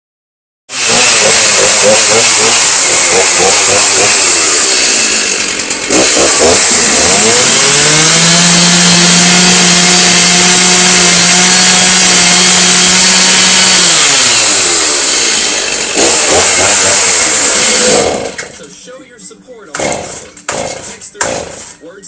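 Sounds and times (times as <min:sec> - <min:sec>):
chainsaw engine revving: 0:00.7 - 0:18.7, 0:19.8 - 0:21.8.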